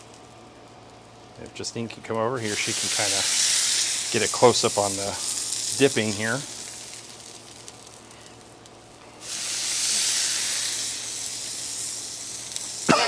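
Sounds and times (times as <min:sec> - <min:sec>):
tortilla sizzling on griddle: 0:00.0 - 0:01.4, 0:02.3 - 0:13.0.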